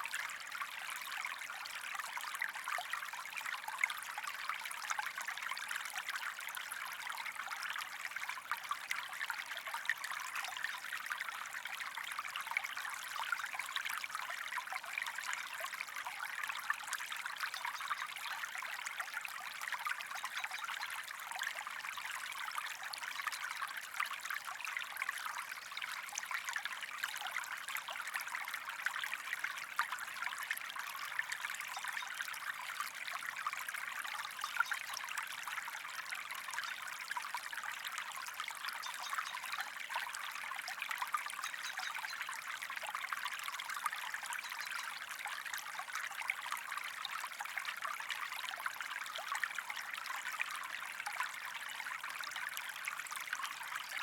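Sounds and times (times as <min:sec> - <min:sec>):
creek trickling over stones: 0:00.0 - 0:54.0.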